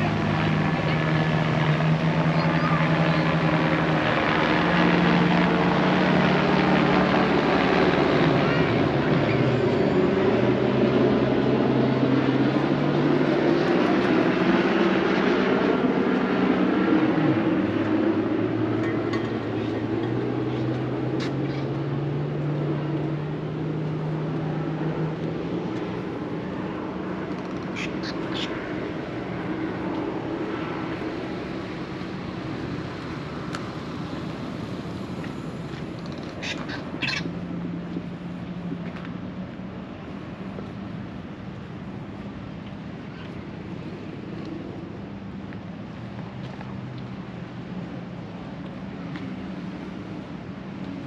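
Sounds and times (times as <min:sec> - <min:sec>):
engine drone: 0:00.0 - 0:51.0
low rumble of motor traffic: 0:00.0 - 0:51.0
outdoor noise: 0:00.0 - 0:51.0.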